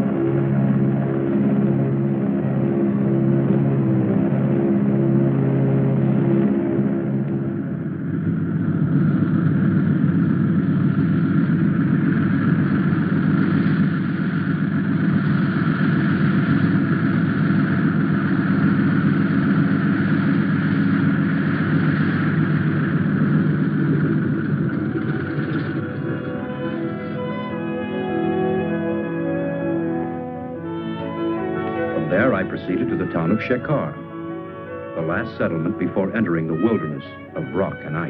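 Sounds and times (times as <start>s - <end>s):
music: 0.0s - 38.0s
vehicle engine drone: 0.0s - 38.0s.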